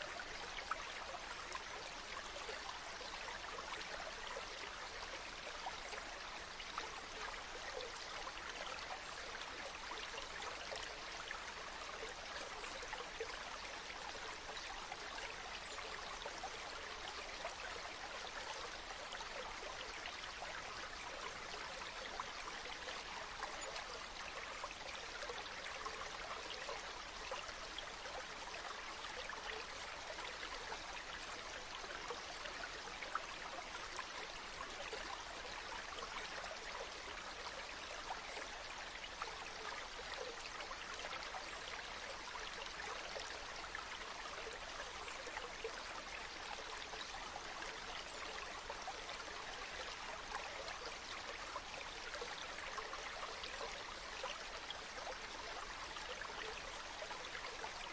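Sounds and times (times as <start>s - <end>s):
stream water running: 0.0s - 57.9s.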